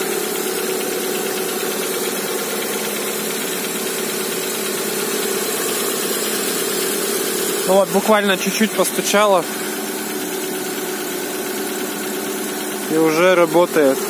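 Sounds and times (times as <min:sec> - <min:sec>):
car engine idling with knock: 0:00.0 - 0:14.0.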